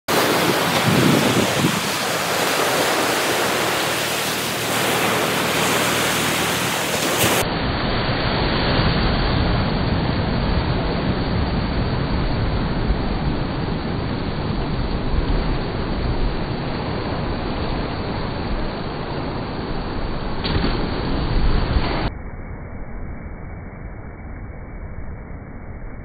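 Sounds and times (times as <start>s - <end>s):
surf washing onto sandy beach: 0.1s - 22.1s
wind on microphone: 0.1s - 22.1s.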